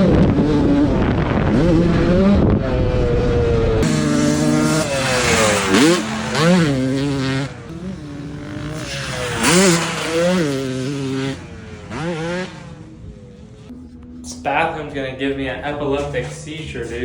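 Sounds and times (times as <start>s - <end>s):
dirt bike engine revving: 0.0s - 16.6s.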